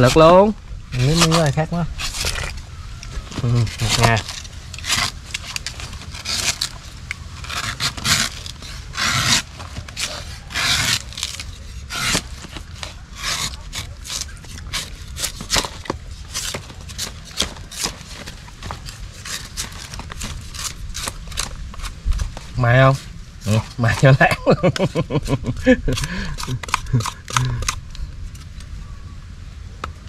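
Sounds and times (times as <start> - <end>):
scraping a coconut: 0.0 - 28.7.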